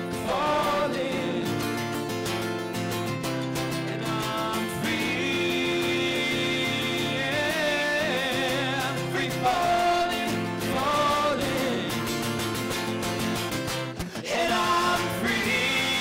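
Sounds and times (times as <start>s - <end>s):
men singing with vibrato: 0.0s - 2.2s, 3.7s - 12.8s, 14.0s - 16.0s
strummed acoustic guitar: 0.0s - 16.0s
ukulele: 0.0s - 16.0s.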